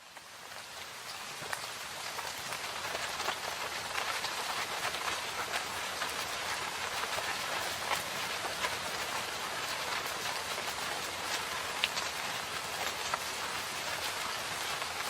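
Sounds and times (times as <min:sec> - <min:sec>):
rain falling in forest: 0:00.0 - 0:15.0.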